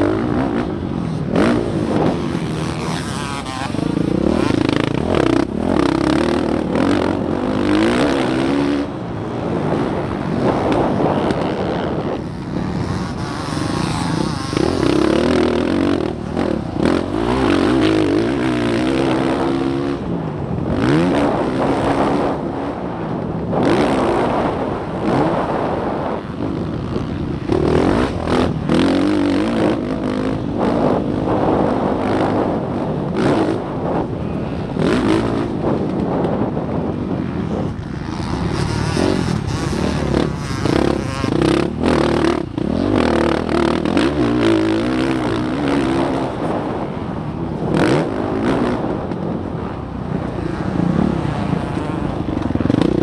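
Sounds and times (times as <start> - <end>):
dirt bike engine revving: 0.0 - 53.0
wind noise: 0.0 - 53.0.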